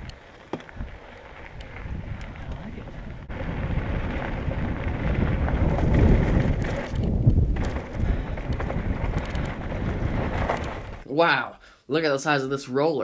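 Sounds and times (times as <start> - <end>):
tyres rolling over gravel: 0.0 - 11.0
wind buffeting microphone: 0.0 - 11.0.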